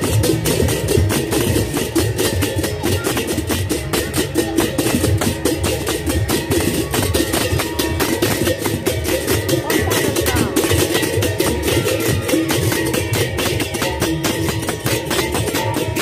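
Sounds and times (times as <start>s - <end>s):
clashing percussion strokes: 0.0s - 16.0s
drums playing fast beat: 0.0s - 16.0s.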